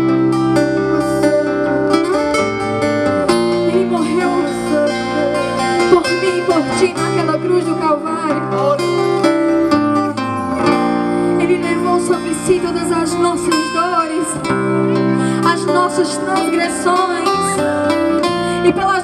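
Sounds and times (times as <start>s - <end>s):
acoustic guitar worship music: 0.0s - 19.0s
bass line: 0.0s - 19.0s.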